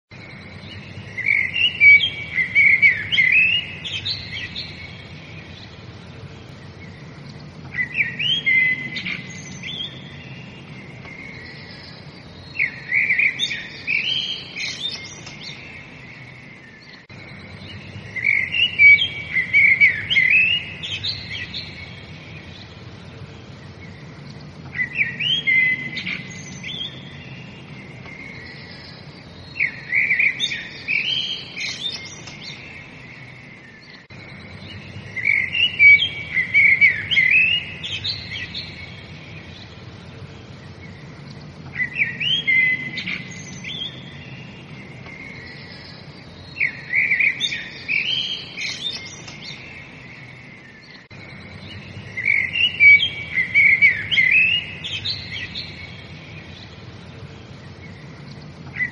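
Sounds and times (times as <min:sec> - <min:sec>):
songbirds chirping: 0:00.1 - 0:58.9
steady background noise: 0:00.1 - 0:58.9.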